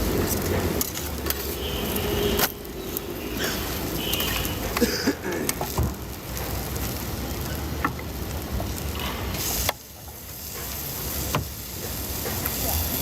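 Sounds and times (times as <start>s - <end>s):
food sizzling in hot oil: 1.0s - 4.8s, 5.4s - 13.0s.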